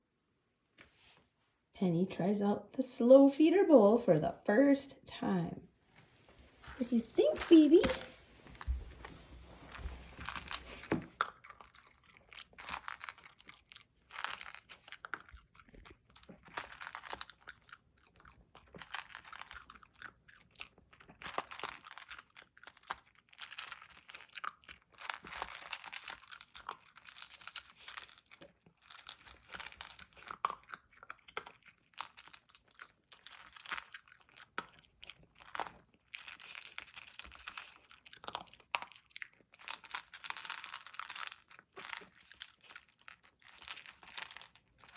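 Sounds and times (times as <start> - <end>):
dog crunching and chewing food: 6.5 - 44.9.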